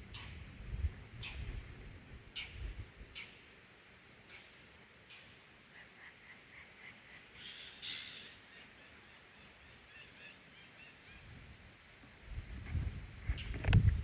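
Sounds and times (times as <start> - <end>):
small birds chirping: 1.1 - 11.9, 12.6 - 14.0.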